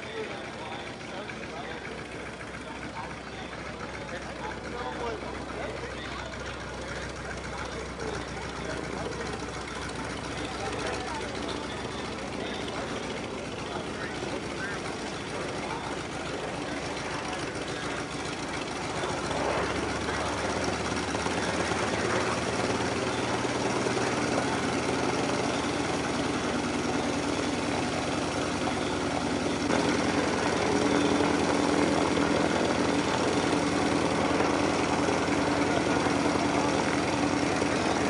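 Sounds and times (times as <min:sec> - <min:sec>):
radial aircraft engine running: 0:00.0 - 0:38.0.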